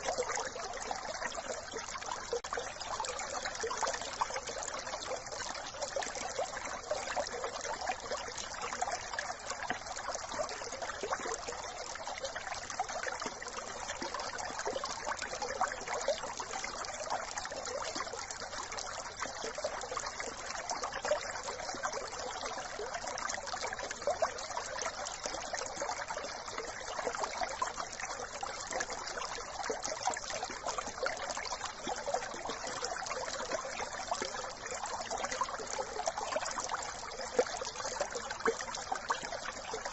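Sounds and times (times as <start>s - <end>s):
brook trickling and babbling: 0.0s - 39.9s.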